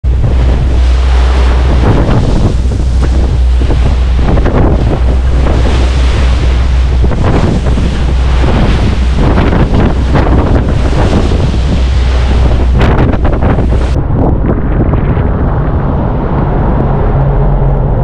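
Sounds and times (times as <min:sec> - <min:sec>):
water rushing along boat hull: 0:00.0 - 0:18.0
wind buffeting microphone: 0:00.0 - 0:18.0.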